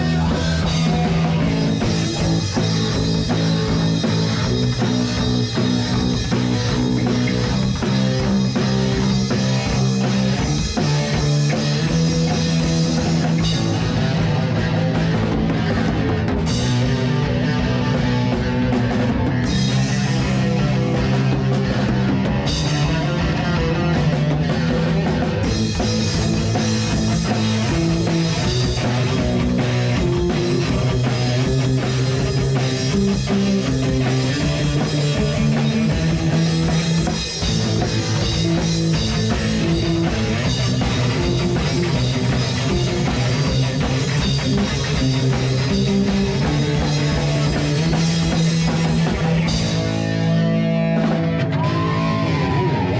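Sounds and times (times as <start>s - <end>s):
rock band playing live: 0.0s - 52.9s.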